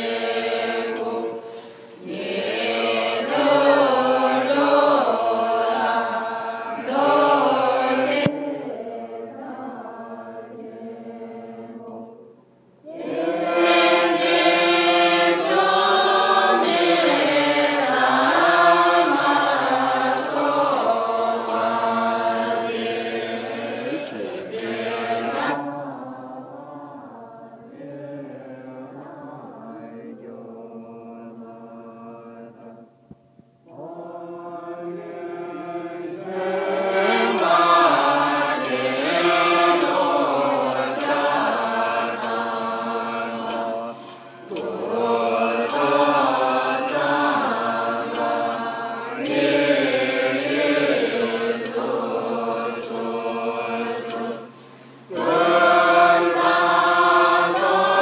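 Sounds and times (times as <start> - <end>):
group chanting prayers: 0.0 - 32.9, 33.7 - 58.0.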